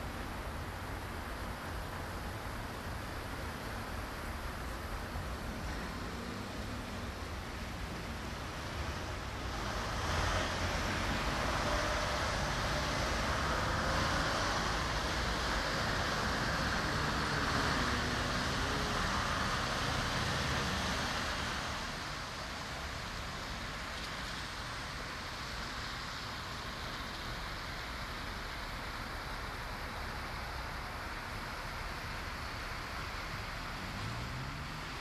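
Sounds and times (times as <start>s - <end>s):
tyre hiss on wet road: 0.0s - 35.0s
vehicle engines passing: 0.0s - 35.0s.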